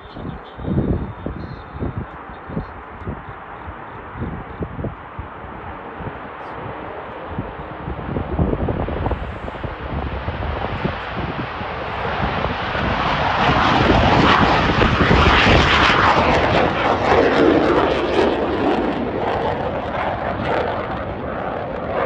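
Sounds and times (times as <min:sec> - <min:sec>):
jet engine roar with crackle: 0:00.0 - 0:22.0.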